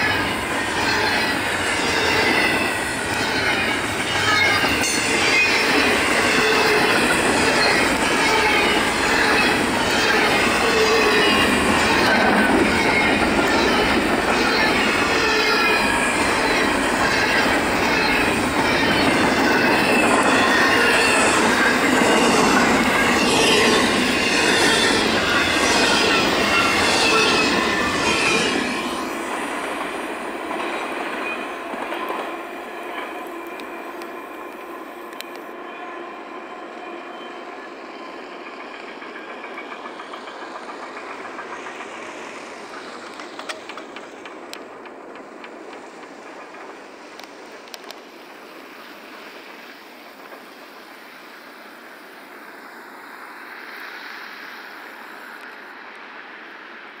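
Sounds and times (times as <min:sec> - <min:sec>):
train wheel squeal: 0:00.0 - 0:56.9
freight train wheels rumbling: 0:00.0 - 0:57.0.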